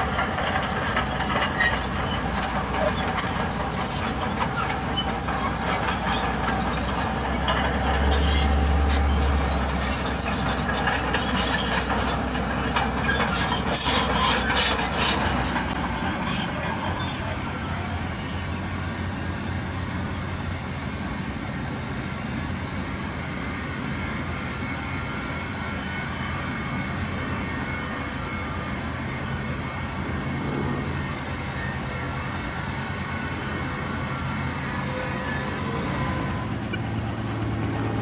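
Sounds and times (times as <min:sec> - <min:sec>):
diesel engine of heavy machinery: 0:00.0 - 0:38.0.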